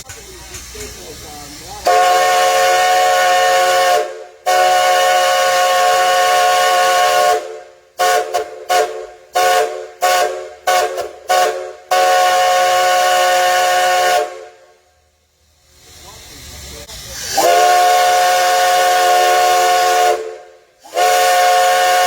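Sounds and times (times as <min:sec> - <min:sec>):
steam locomotive whistle: 0:01.8 - 0:15.0, 0:17.2 - 0:22.0.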